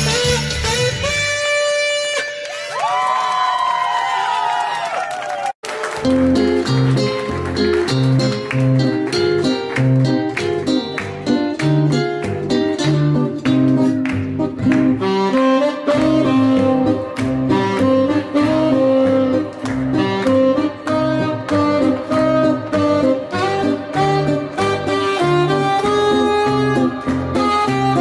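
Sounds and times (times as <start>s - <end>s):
background music with melody and bass: 0.0s - 2.4s, 6.0s - 28.0s.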